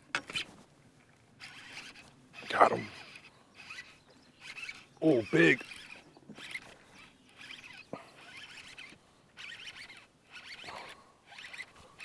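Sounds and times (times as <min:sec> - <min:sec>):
fishing reel cranking rasp: 0:01.4 - 0:12.0.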